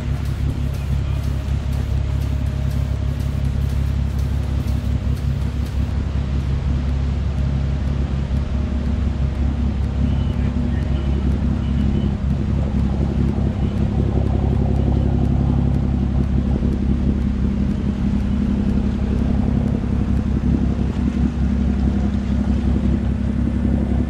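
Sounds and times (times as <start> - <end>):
boat engine droning: 0.0 - 24.0
boat wake washing: 0.0 - 24.0.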